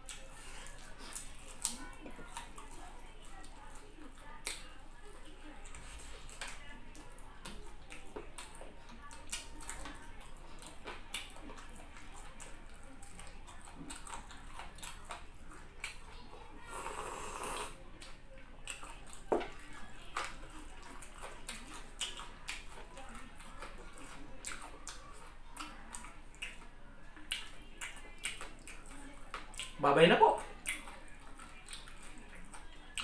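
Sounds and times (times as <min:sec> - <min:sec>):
man chewing with lip-smacking: 0:00.0 - 0:33.0.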